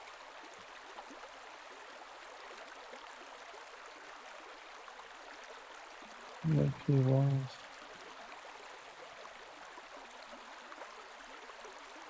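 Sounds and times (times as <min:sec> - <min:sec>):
flowing canal water: 0:00.0 - 0:12.0.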